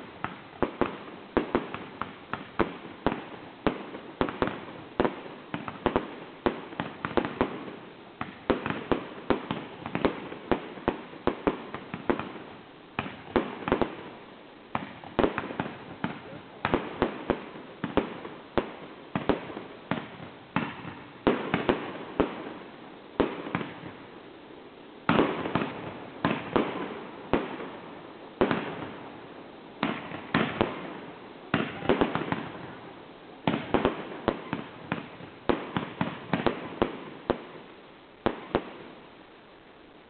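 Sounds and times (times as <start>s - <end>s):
fireworks bangs: 0.0s - 24.3s, 25.0s - 40.0s
fireworks crackle: 0.0s - 40.0s.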